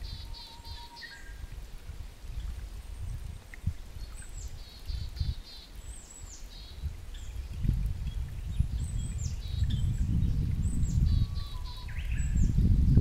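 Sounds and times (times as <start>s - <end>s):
songbird singing: 0.0s - 1.6s, 2.2s - 13.0s.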